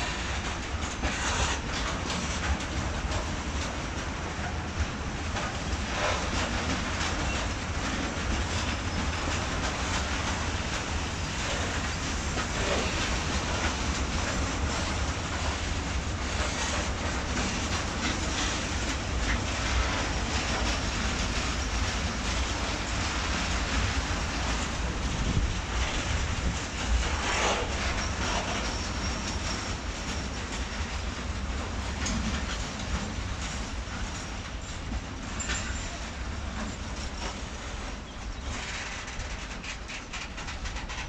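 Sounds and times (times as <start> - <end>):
train wheels rumbling on rails: 0.0 - 41.0
wheels clicking over track: 0.0 - 41.0.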